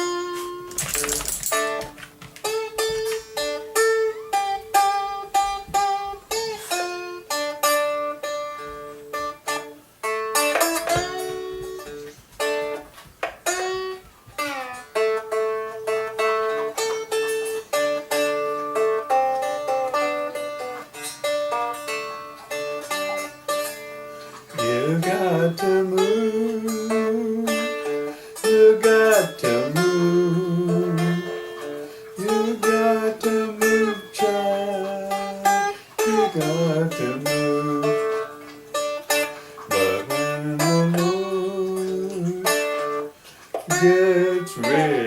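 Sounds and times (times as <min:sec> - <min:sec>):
fingerpicked blues guitar melody: 0:00.0 - 0:45.0.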